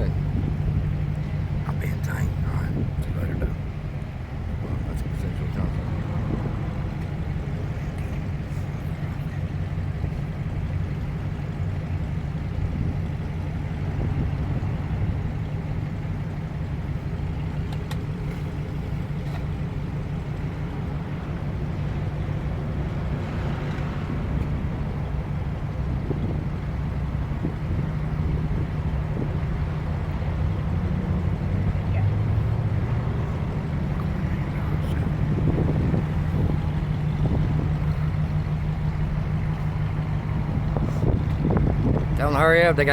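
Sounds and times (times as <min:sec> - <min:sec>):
vehicle engine humming: 0:00.0 - 0:42.9.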